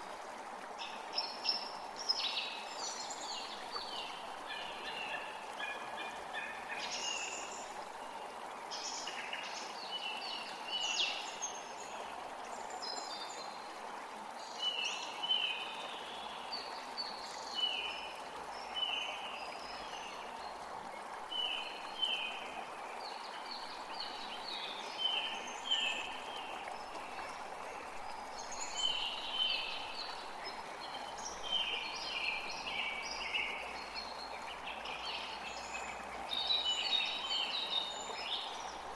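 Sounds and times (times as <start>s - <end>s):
creek running: 0.0s - 38.9s.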